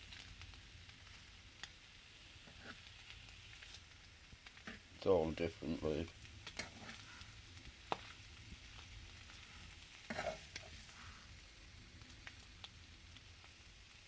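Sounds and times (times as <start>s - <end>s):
meat and peppers sizzling in a pan: 0.0s - 14.0s
small crackles: 0.0s - 14.0s.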